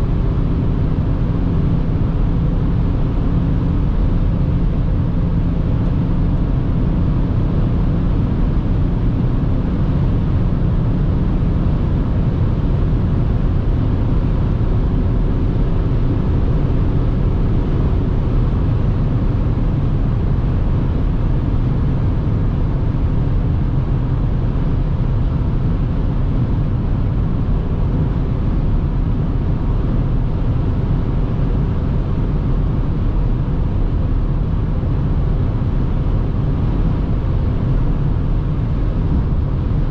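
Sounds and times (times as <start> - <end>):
diesel car engine cruising: 0.0 - 39.9
wind noise: 0.0 - 39.9.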